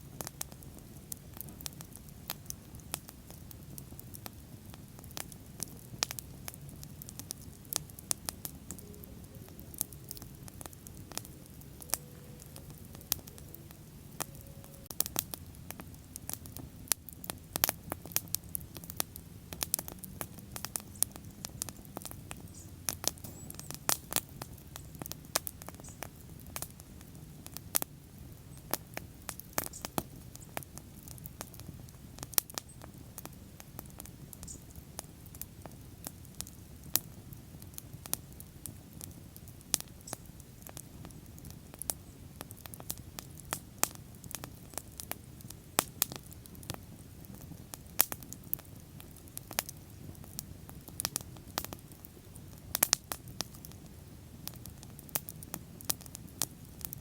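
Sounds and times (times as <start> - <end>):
bonfire popping and snapping: 0.0 - 57.0
flames rumbling: 0.0 - 57.0.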